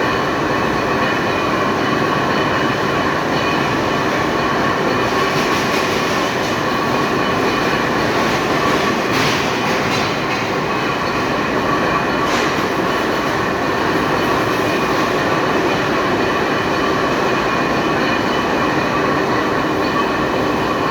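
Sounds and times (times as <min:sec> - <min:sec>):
lathe machining steel: 0:00.0 - 0:20.9.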